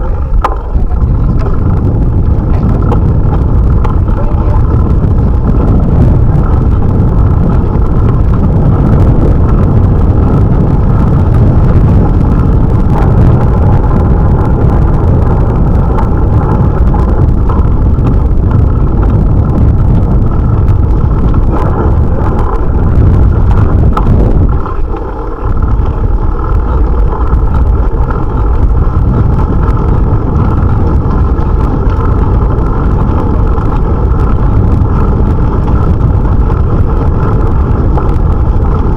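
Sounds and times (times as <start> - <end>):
wind and road rumble: 0.0 - 38.9.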